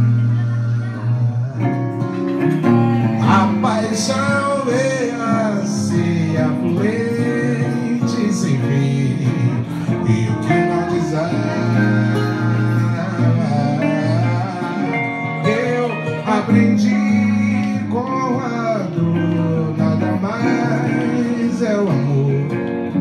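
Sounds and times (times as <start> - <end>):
man singing: 0.0 - 23.0
two guitars playing: 0.0 - 23.0.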